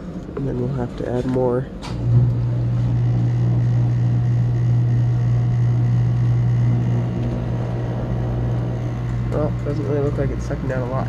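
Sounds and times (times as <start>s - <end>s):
heat pump humming: 0.0s - 11.0s.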